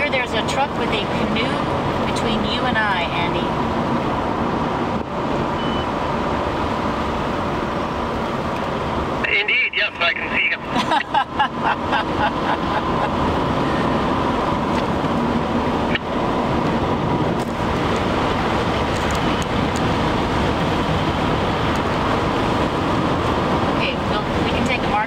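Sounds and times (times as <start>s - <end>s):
road and tyre noise inside car: 0.0s - 25.0s.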